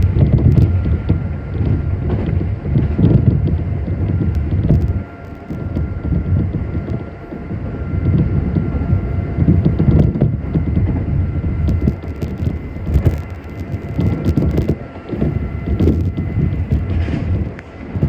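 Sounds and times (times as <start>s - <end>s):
electric train rumbling on rails: 0.0s - 18.0s.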